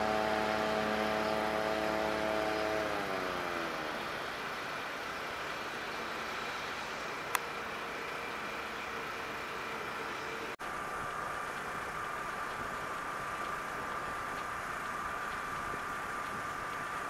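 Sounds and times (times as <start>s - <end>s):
distant jet engines whining: 0.0s - 17.0s.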